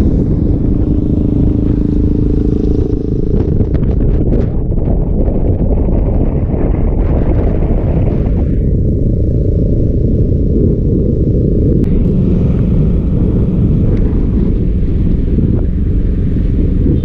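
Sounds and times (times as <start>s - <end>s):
motorcycle engine rumbling: 0.0s - 17.0s
wind buffeting microphone: 0.0s - 17.0s.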